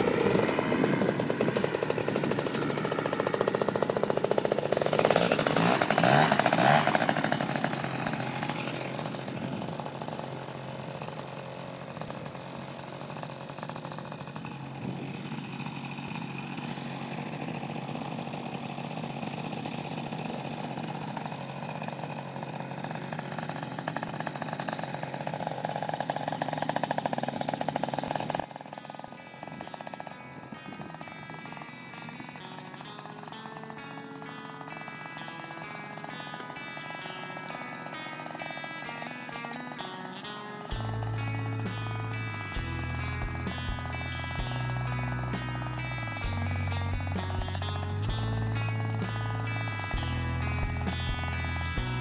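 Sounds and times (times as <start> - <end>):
paramotor engine buzzing: 0.0 - 52.0.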